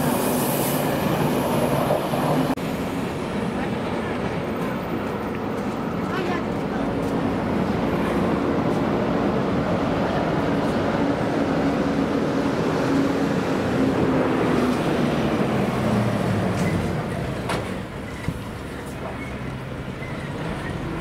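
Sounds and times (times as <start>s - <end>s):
passenger train rumbling past: 0.0s - 21.0s.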